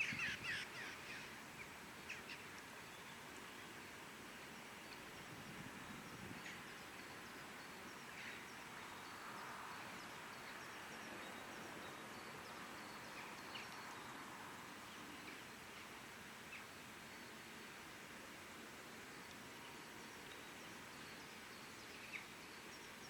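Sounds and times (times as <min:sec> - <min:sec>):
low outdoor hiss: 0:00.0 - 0:23.0.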